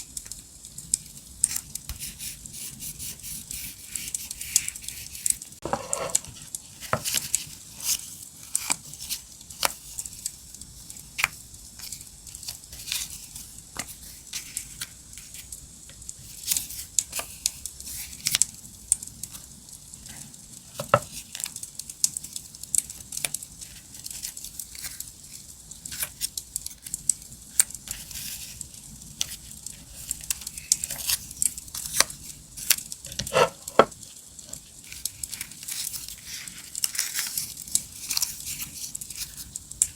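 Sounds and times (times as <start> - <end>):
paper rustling and crinkling: 1.4 - 15.5, 16.2 - 18.4, 19.2 - 39.9.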